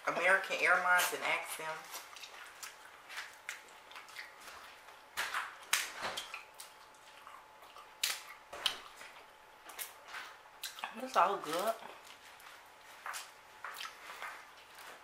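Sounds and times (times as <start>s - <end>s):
wet chewing smacks and clicks: 1.9s - 11.0s, 11.6s - 15.0s.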